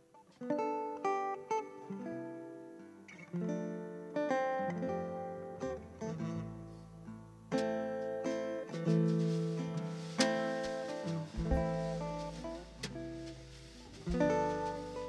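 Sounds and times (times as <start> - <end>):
resonator guitar fingerstyle: 0.0 - 15.0.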